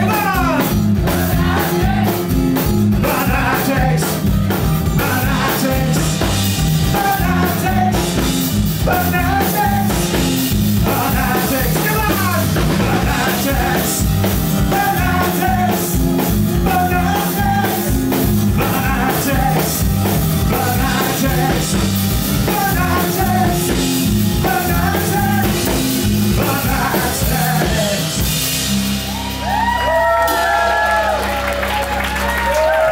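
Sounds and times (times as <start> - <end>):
drums playing steady beat: 0.0 - 30.9
bass guitar: 0.0 - 32.9.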